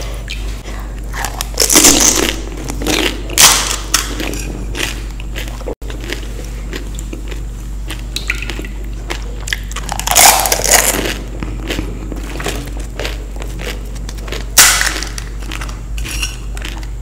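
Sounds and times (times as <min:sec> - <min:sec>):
low electrical hum: 0:00.0 - 0:17.0
crunchy bites and chewing: 0:01.0 - 0:17.0.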